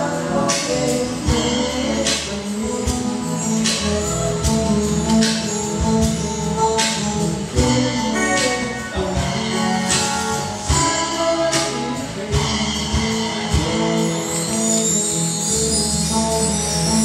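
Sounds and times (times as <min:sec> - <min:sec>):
bass guitar: 0:00.0 - 0:17.0
electric guitar: 0:00.0 - 0:17.0
percussion strikes on a steady beat: 0:00.0 - 0:17.0.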